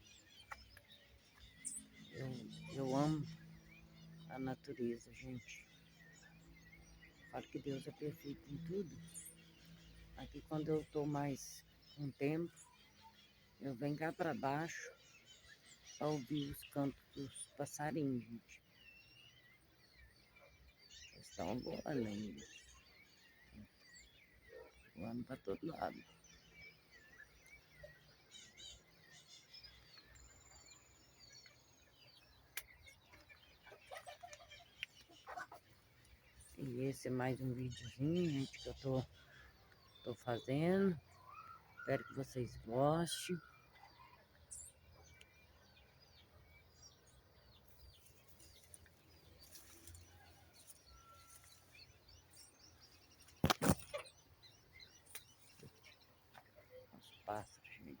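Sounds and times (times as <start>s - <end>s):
birds chirping and whistling: 0.0s - 58.0s.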